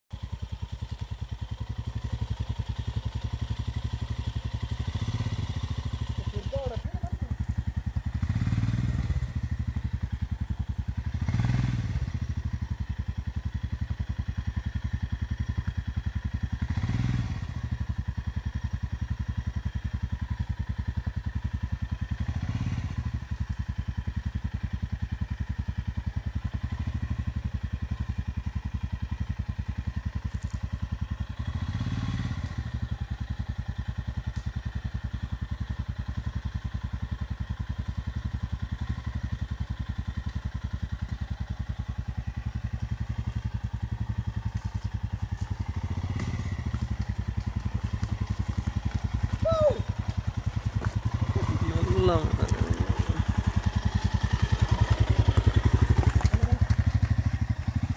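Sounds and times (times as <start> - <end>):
motorcycle engine revving: 0.1 - 57.9.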